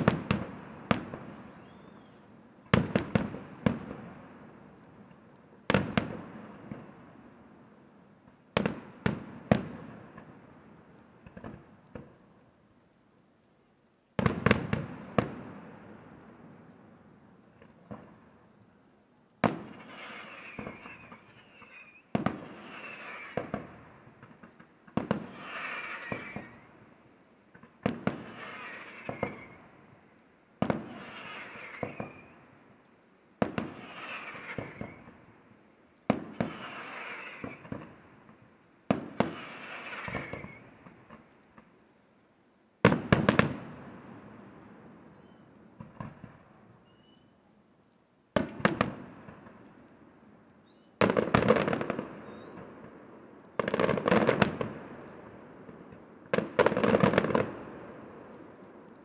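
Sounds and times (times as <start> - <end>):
firework shells bursting: 0.0 - 41.8, 42.6 - 59.0
crackling firework pops: 0.0 - 59.0.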